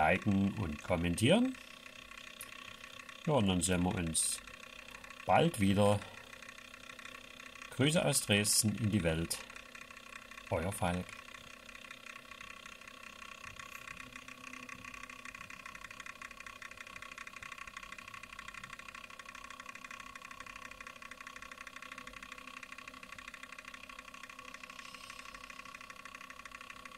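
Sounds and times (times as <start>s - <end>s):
small motor whirring with rattle: 0.0s - 26.9s.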